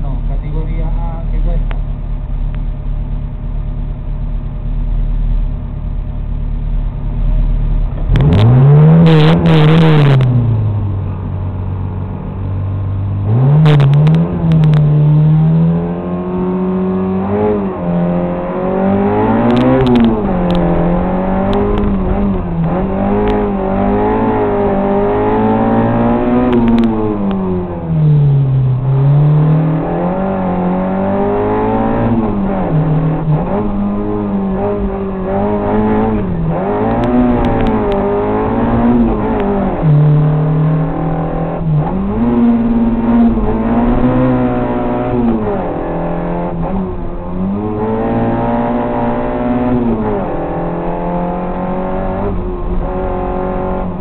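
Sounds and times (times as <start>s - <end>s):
car engine revving and accelerating: 7.3s - 54.0s.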